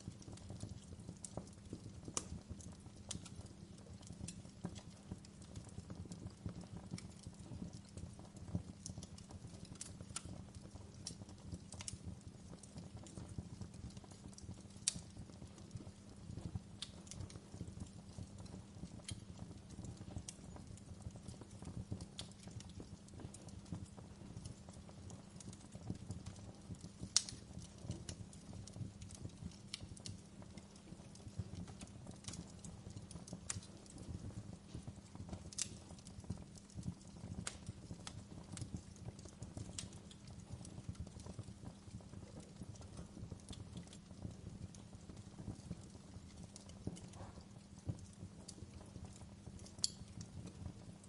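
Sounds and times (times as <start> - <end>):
low rumble of fire: 0.0 - 51.0
wood fire crackling and popping: 0.0 - 51.0.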